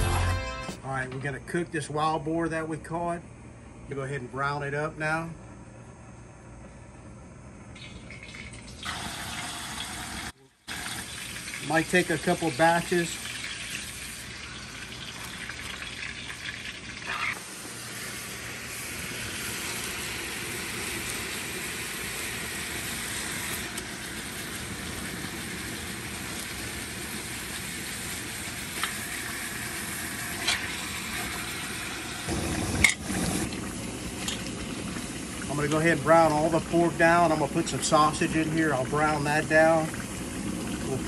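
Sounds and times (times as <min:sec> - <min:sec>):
meat sizzling in hot oil: 0:07.8 - 0:41.0.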